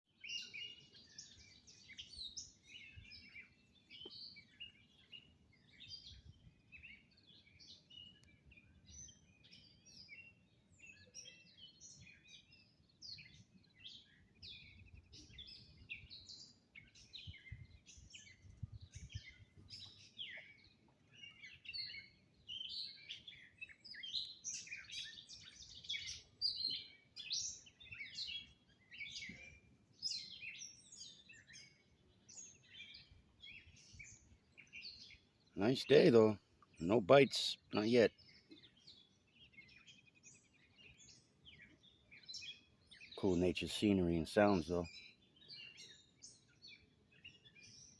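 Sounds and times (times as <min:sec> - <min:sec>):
songbirds chirping and trilling: 0:00.1 - 0:47.9.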